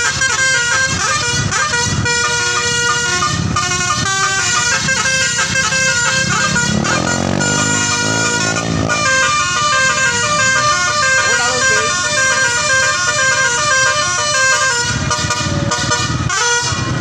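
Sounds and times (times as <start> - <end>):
multi-tone bus horn tune: 0.0 - 17.0.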